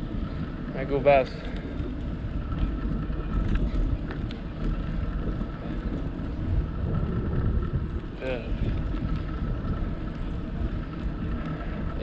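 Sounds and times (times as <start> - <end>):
bicycle rolling on pavement: 0.0 - 12.0
wind buffeting microphone: 0.0 - 12.0.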